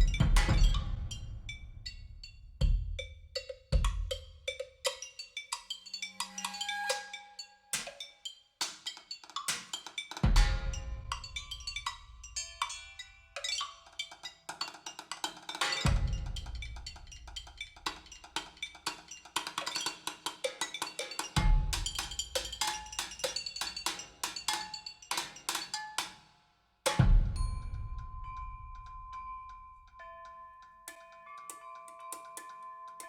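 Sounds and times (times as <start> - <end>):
percussion music over loudspeakers: 0.0 - 26.3, 26.9 - 33.0.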